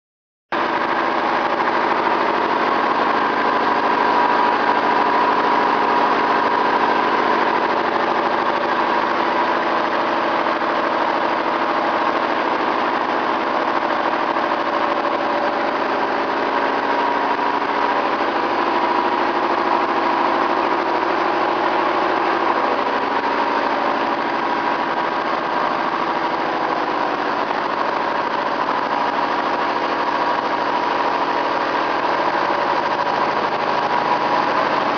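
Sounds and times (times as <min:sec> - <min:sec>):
milling machine humming and whining: 0:00.6 - 0:34.9.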